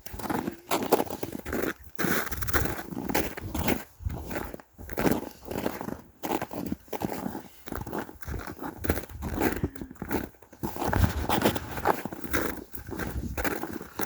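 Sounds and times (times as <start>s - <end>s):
footsteps crunching on snow: 0.0s - 14.0s.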